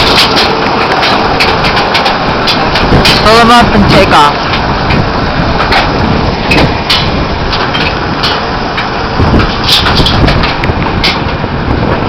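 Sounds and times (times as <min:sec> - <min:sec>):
machinery mechanical din: 0:00.0 - 0:12.0.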